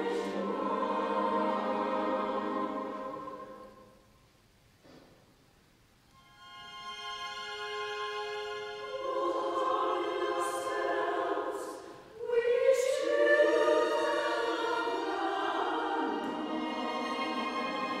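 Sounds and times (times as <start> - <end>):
string orchestra: 0.0 - 3.8, 6.2 - 18.0
choir singing: 0.0 - 4.1, 6.7 - 18.0.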